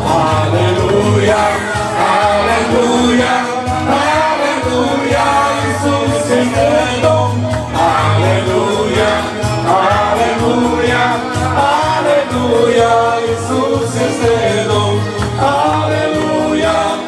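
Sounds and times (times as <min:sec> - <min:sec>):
instrumental backing with bass: 0:00.0 - 0:17.0
men singing worship song: 0:00.0 - 0:17.0.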